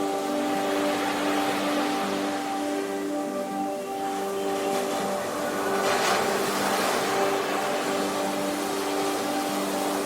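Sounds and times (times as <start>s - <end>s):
ambient music pad: 0.0s - 10.0s
sea waves washing in: 0.0s - 10.0s.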